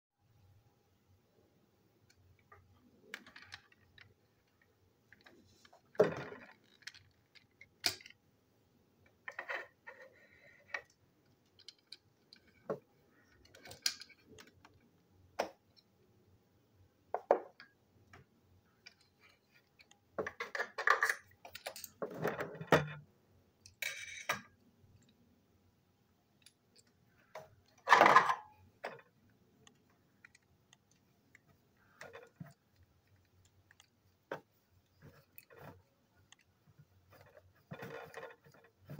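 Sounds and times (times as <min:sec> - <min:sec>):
plastic parts clicking and rattling: 0:02.0 - 0:08.2, 0:09.0 - 0:15.9, 0:17.2 - 0:25.2, 0:26.3 - 0:38.9.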